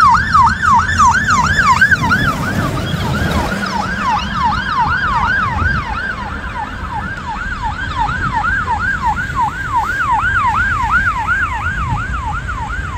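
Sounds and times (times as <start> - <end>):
fire engine siren yelping: 0.0 - 12.9
traffic rumble: 0.0 - 12.9.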